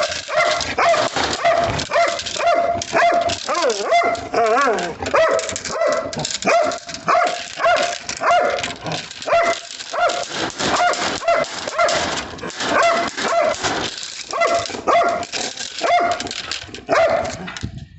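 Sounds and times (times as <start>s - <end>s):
dog barking high yelps: 0.0s - 17.4s.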